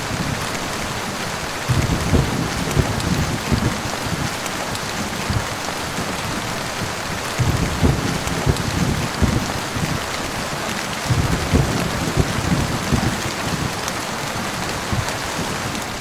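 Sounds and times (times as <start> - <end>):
heavy rain hissing: 0.0 - 16.0
low thuds and rumbles: 1.7 - 16.0.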